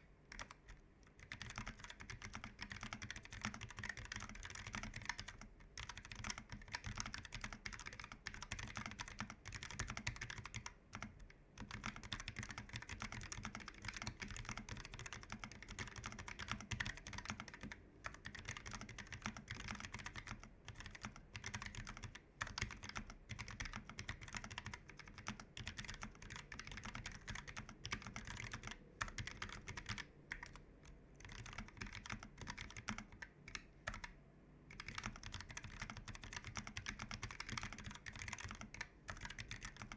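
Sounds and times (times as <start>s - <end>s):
fast typing on mechanical keyboard: 0.0s - 30.6s, 31.2s - 34.1s, 34.7s - 39.9s.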